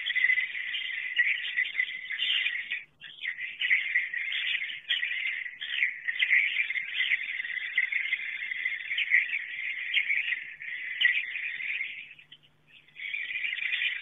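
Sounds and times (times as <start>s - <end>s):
birds twittering chatter: 0.0s - 14.0s.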